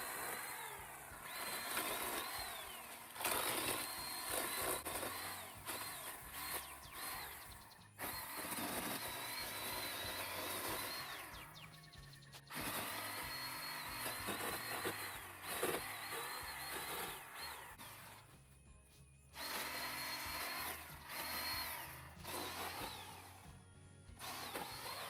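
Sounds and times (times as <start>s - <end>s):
pole saw motor whining: 0.0s - 18.5s, 19.3s - 25.0s.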